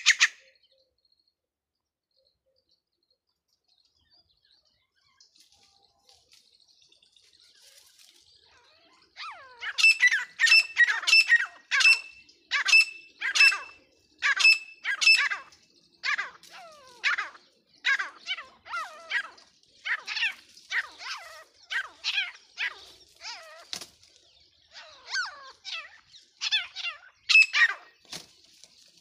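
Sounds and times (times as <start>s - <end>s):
faint chirps: 0.0s - 29.0s.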